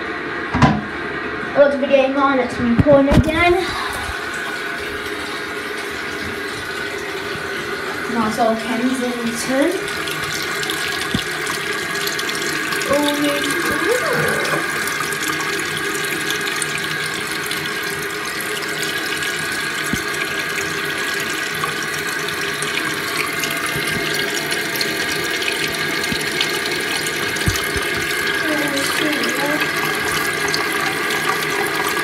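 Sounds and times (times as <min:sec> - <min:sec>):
toilet cistern refilling: 0:03.1 - 0:32.0.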